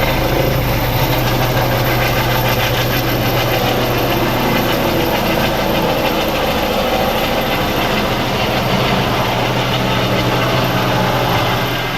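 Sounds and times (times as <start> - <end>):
helicopter turbine and rotor: 0.0 - 11.9.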